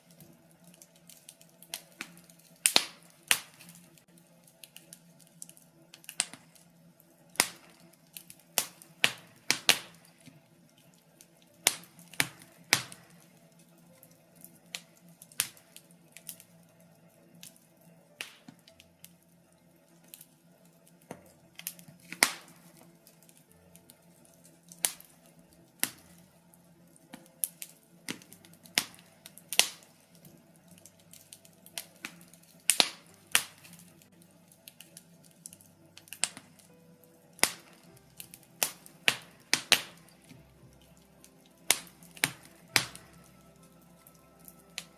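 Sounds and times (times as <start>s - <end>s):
fire popping: 0.0s - 44.9s
logs crackling in fireplace: 0.0s - 44.9s.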